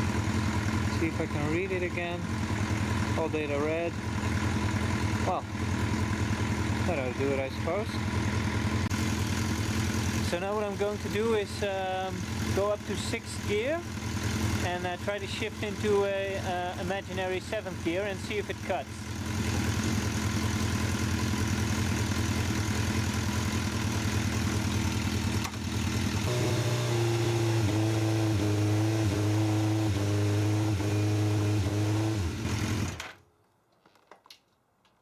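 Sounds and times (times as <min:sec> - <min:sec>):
motorcycle engine revving: 0:00.0 - 0:33.1.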